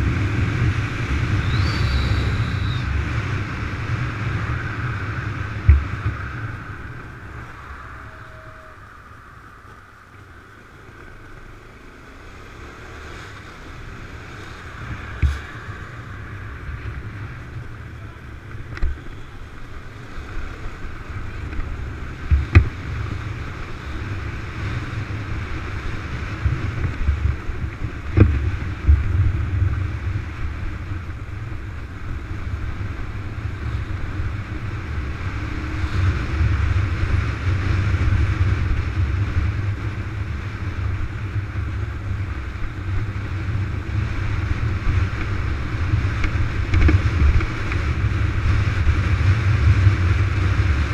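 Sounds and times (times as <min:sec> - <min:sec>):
motorcycle engine and wind rumble: 0:00.0 - 0:50.9.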